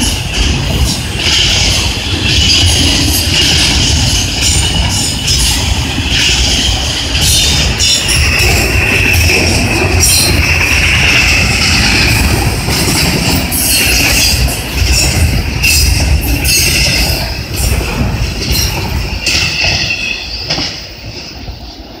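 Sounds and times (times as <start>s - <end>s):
freight train cars rolling: 0.0s - 22.0s.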